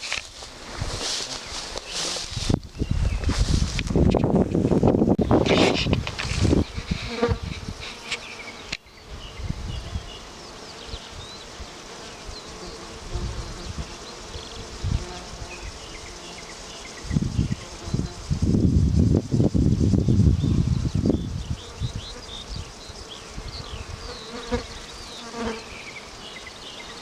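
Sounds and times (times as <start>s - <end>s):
bees buzzing: 0.0s - 18.6s, 20.4s - 27.0s.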